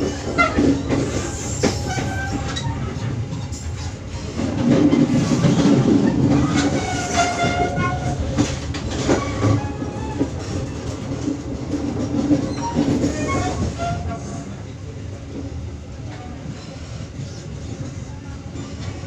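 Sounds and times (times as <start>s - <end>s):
train wheels rumbling and clattering: 0.0s - 19.0s.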